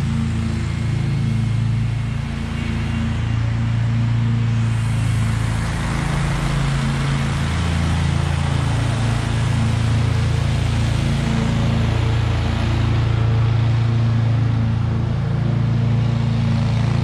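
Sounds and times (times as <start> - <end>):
mower engine drone: 0.0 - 17.0.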